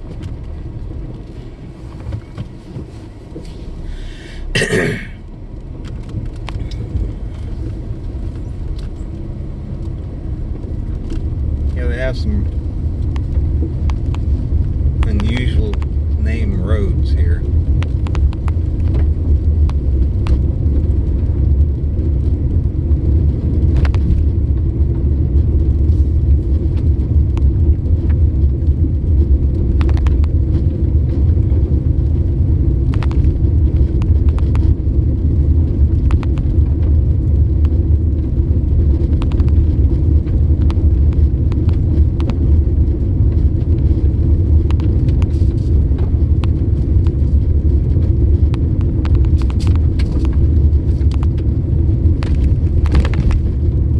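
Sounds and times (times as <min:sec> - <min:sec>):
road and engine noise: 0:00.0 - 0:53.9.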